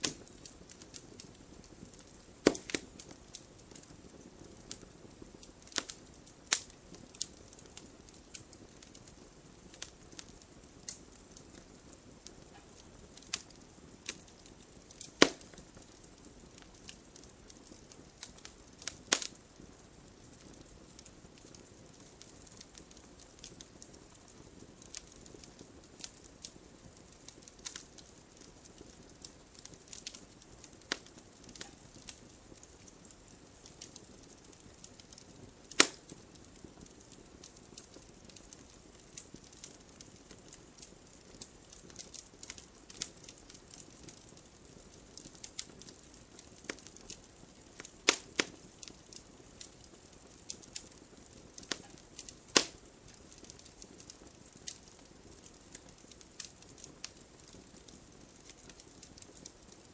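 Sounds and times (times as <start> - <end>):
loud fire pops: 0.0 - 59.8
faint hiss: 0.0 - 59.9
wood fire crackling: 0.0 - 59.9.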